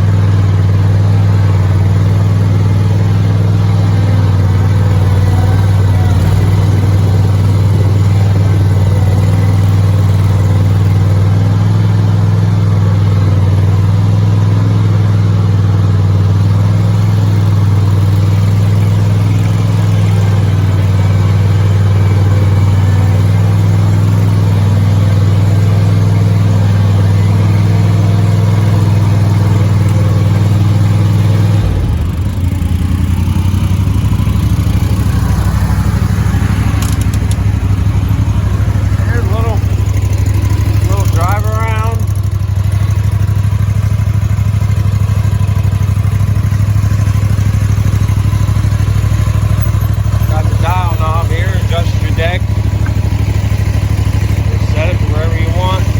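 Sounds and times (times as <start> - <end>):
mower engine running: 0.0 - 55.9.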